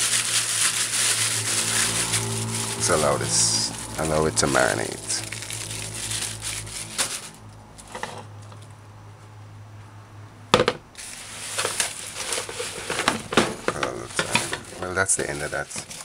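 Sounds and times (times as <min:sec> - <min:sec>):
plastic bag crinkling: 0:00.0 - 0:08.0, 0:11.0 - 0:16.0
leaves rustling: 0:00.0 - 0:08.7, 0:11.0 - 0:16.0.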